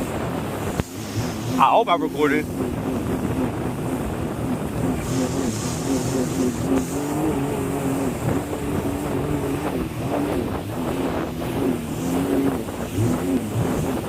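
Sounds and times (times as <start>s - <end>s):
jet ski engine running: 0.0s - 14.0s
water spray: 0.0s - 14.0s
wind noise on microphone: 0.0s - 14.0s.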